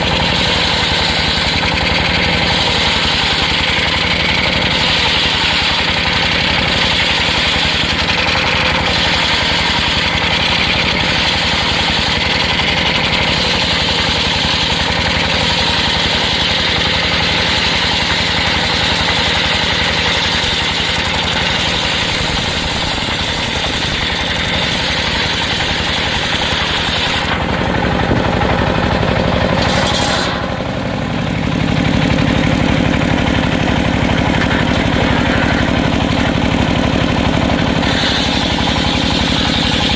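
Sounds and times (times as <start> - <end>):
circular sawmill running: 0.0 - 39.9.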